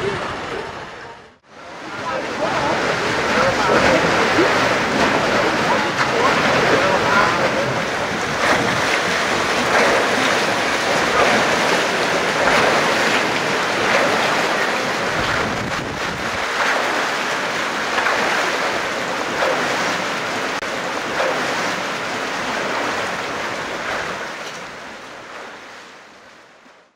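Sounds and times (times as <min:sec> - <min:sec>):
paddle wheels churning water: 0:00.0 - 0:26.9.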